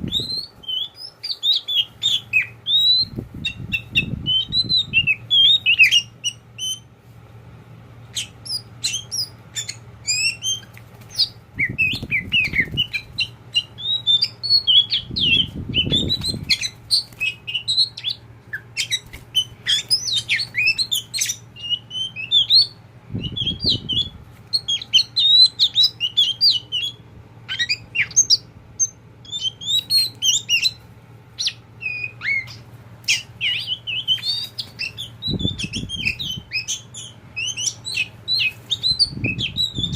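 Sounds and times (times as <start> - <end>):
bird singing chirps and whistles: 0.0 - 6.8, 8.1 - 30.8, 31.4 - 39.9
faint low hum: 0.0 - 39.9.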